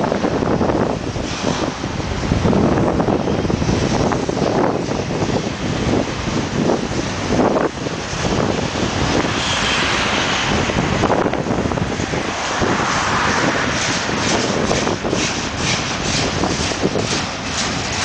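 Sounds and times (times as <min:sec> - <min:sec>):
train wheels rumbling on rails: 0:00.0 - 0:18.0
wind buffeting microphone: 0:00.0 - 0:18.0.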